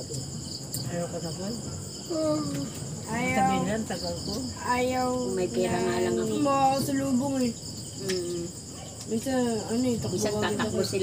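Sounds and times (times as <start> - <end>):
crickets chirring: 0.0 - 11.0
people talking: 0.8 - 11.0.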